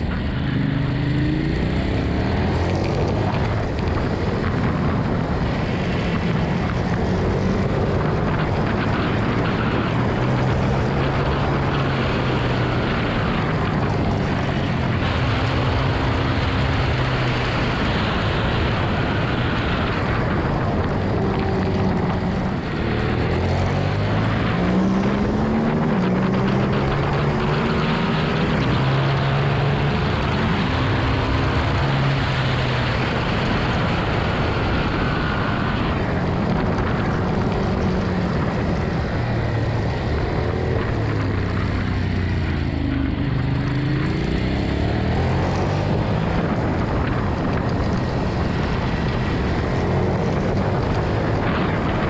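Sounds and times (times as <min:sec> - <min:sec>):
motorcycle engine revving: 0:00.0 - 0:52.0
wind noise: 0:00.0 - 0:52.0.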